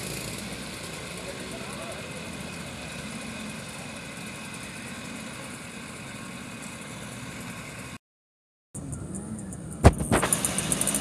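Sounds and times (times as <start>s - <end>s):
moped engines idling: 0.0s - 8.0s, 8.8s - 11.0s.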